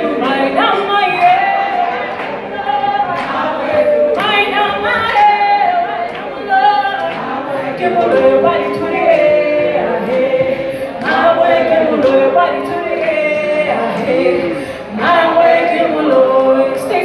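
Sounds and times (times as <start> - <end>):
voices singing together: 0.0 - 17.0
woman singing: 0.0 - 17.0.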